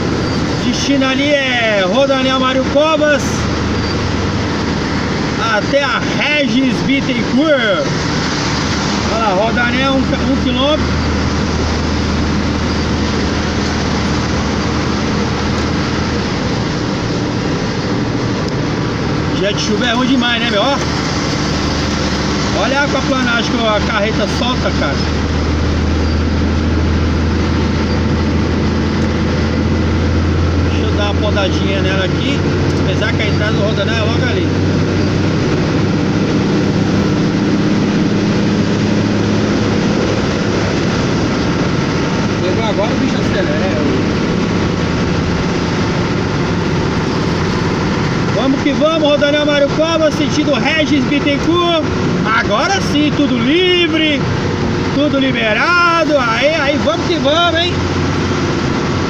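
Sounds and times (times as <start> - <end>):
truck engine drone: 0.0 - 59.0
tyres hissing on wet road: 0.0 - 59.0.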